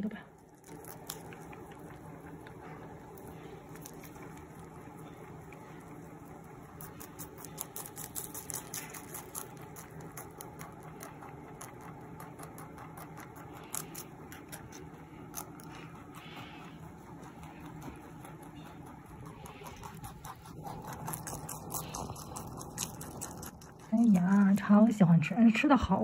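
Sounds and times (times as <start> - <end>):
rabbit chewing crunchy leaves: 0.0 - 26.0
steady low hum: 0.0 - 26.0.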